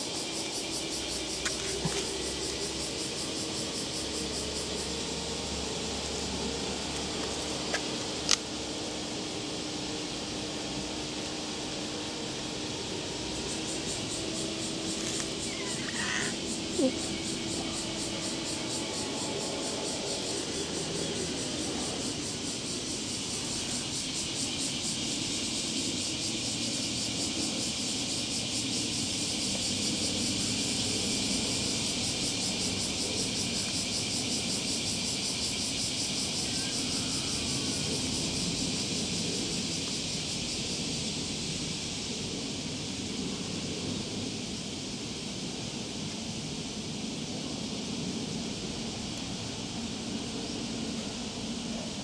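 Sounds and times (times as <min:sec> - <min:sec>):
high hissing buzz: 0:00.0 - 0:52.0.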